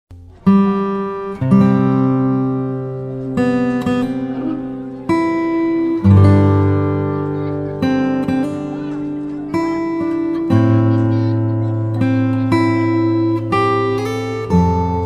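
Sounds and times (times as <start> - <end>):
acoustic guitar chords ringing: 0.1 - 15.0.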